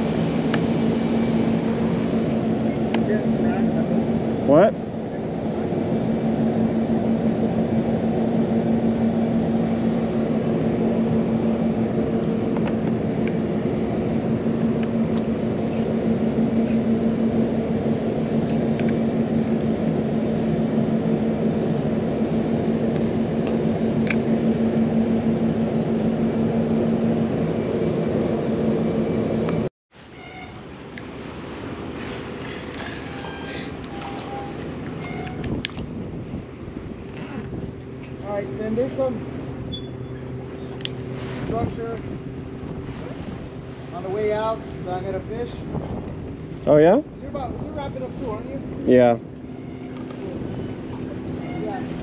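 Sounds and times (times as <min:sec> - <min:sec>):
low rumbling noise: 0:00.0 - 0:52.0
motor humming: 0:00.0 - 0:52.0.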